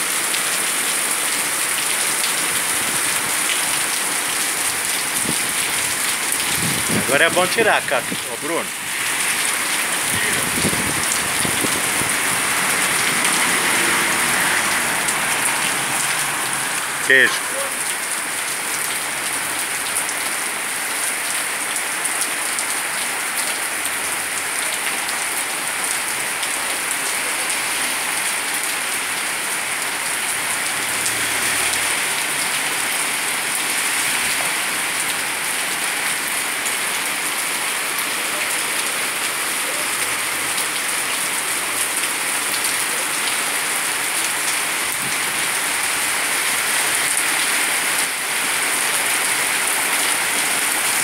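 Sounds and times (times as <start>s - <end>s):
rain pouring: 0.0s - 51.0s.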